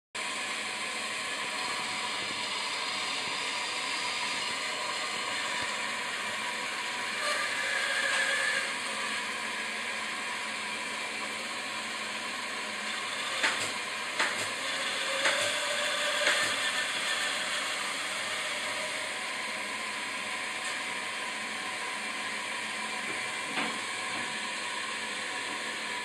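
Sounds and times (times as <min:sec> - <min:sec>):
band saw cutting wood: 0:00.2 - 0:26.0.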